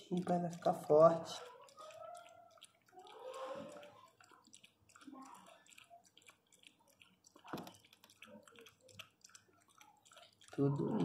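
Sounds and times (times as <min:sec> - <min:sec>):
dog lapping milk: 0:00.0 - 0:11.0.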